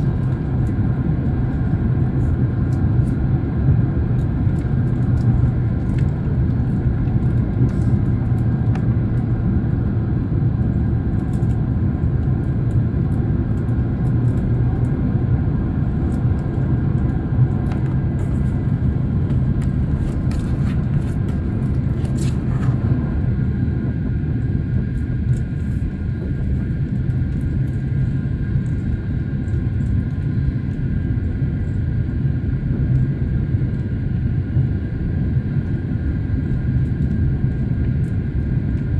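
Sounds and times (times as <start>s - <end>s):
jet airliner cabin drone: 0.0s - 38.9s.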